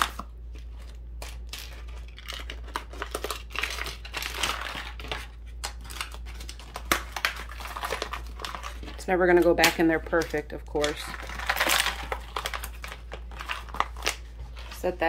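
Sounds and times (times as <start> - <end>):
paper pouch crinkling: 0.0 - 15.0.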